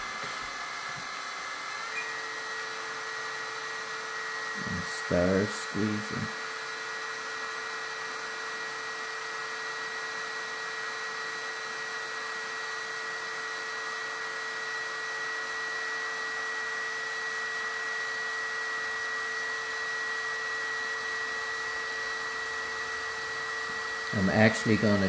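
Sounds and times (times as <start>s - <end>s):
hydraulic pump whine and hiss: 0.0s - 25.0s.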